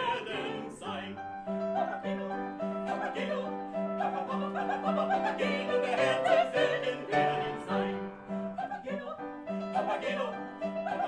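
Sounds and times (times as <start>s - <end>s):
operatic singing: 0.0s - 11.0s.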